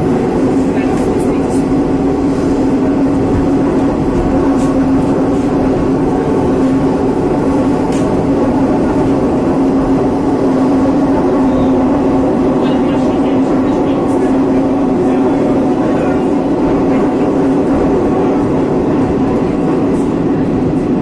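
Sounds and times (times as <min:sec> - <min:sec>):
metro train running in tunnel: 0:00.0 - 0:21.0.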